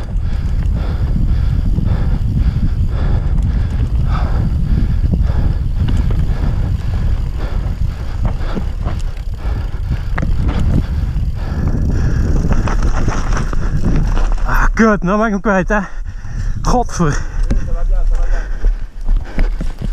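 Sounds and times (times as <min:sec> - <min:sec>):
bike rattling and knocking: 0:00.0 - 0:15.2, 0:17.1 - 0:19.9
wind buffeting microphone: 0:00.0 - 0:19.9.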